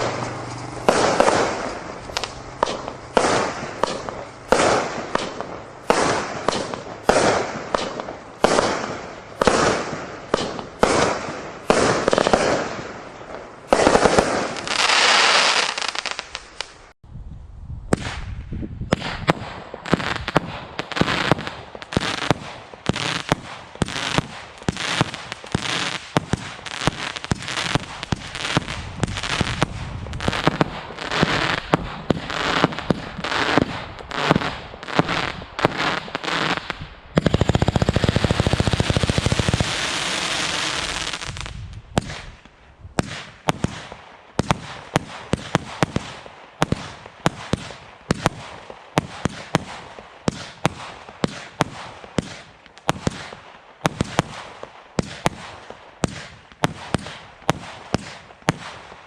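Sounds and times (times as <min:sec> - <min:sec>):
fireworks bangs: 0:00.0 - 0:17.0, 0:17.9 - 0:59.0.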